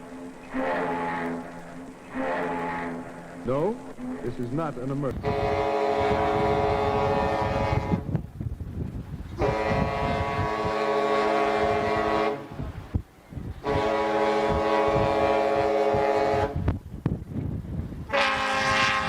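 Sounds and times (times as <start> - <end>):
ship's horn blasts: 0.0 - 8.2, 9.3 - 16.8, 18.0 - 19.0.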